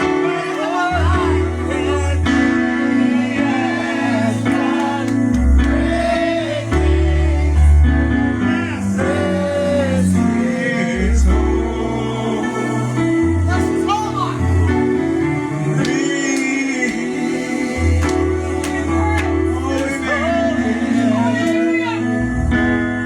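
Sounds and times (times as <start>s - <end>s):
bass line: 0.0s - 15.8s, 16.9s - 23.0s
gospel singing: 0.0s - 23.0s
keyboard chords: 0.0s - 23.0s.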